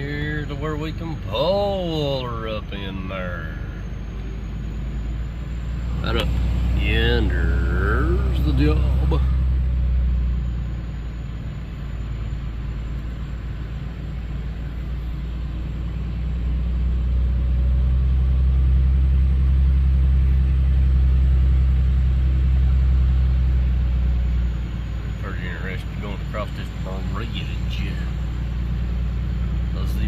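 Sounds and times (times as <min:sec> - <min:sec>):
truck diesel engine drone: 0:00.0 - 0:30.0.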